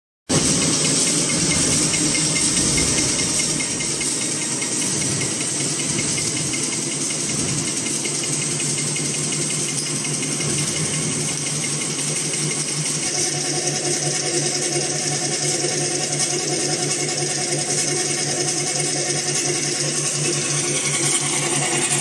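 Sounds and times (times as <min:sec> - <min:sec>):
machine humming and rattling: 0:00.3 - 0:22.0.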